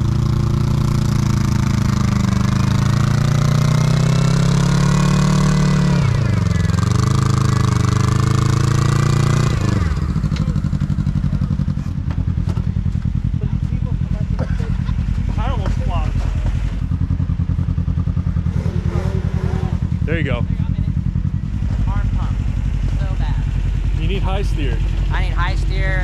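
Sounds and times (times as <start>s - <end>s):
utility vehicle engine revving: 0.0s - 26.0s.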